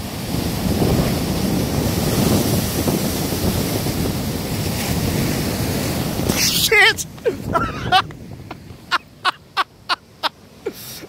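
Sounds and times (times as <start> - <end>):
wind buffeting microphone: 0.0 - 10.6
ocean waves breaking on rocks: 0.0 - 11.0.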